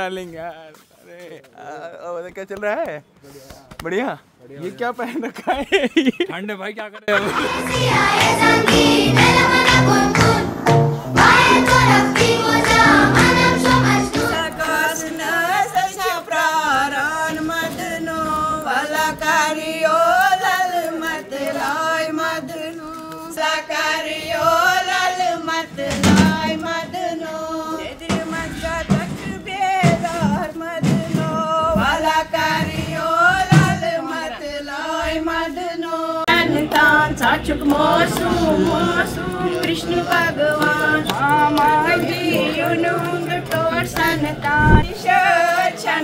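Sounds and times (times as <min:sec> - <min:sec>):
women singing in unison: 0:07.2 - 0:46.0.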